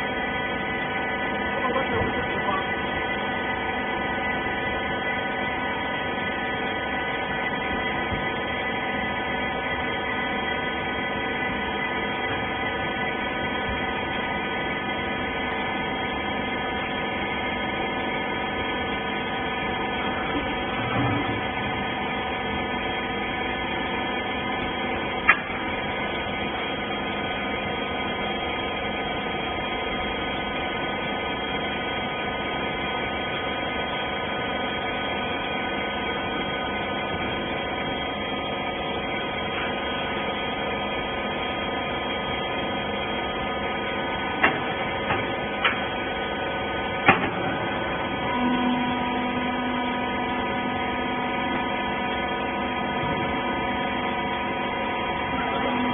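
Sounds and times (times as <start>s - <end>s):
baler motor and pump hum: 0.0s - 55.9s.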